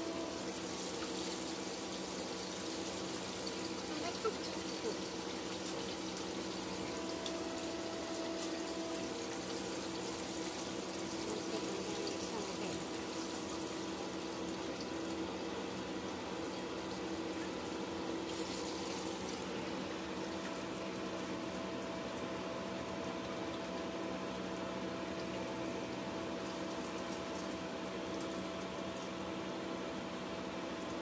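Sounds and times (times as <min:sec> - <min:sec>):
chicken frying in hot oil: 0:00.0 - 0:31.0
steady hum: 0:00.0 - 0:31.0.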